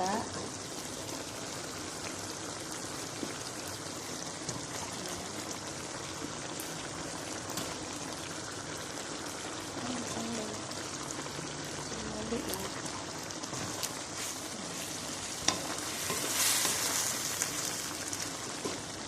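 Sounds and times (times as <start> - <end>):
fish sizzling in a pan: 0.0 - 19.0.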